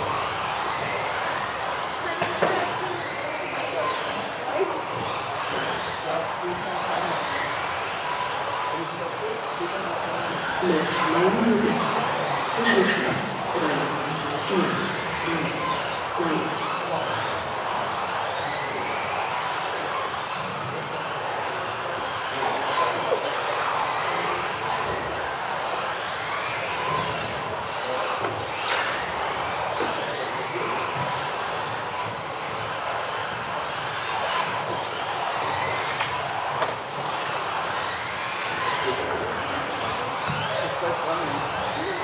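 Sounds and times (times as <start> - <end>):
electric motors whining: 0.0 - 42.0.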